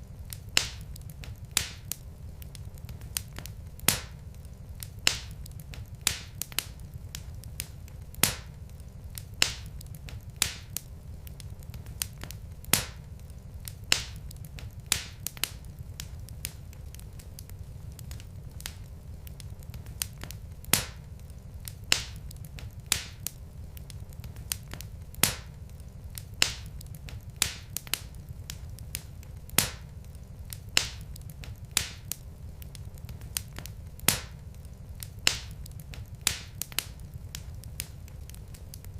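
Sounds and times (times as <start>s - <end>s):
low rumble of burning logs: 0.0s - 38.9s
wood fire crackling: 0.0s - 38.9s.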